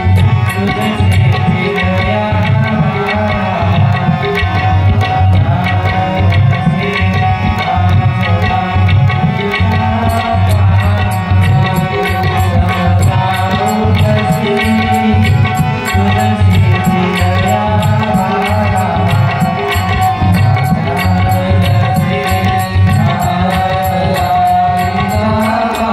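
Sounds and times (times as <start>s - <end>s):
melodic drone accompaniment: 0.0s - 25.9s
tabla playing: 0.0s - 25.9s.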